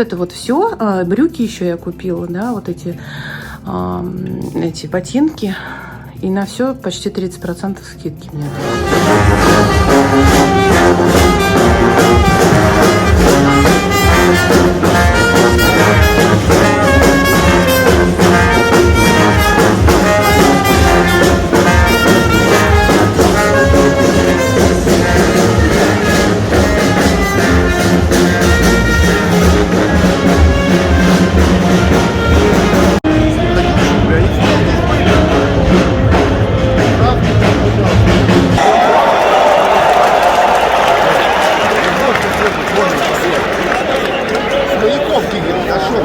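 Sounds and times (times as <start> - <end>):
background music with steady beat: 0.0 - 41.6.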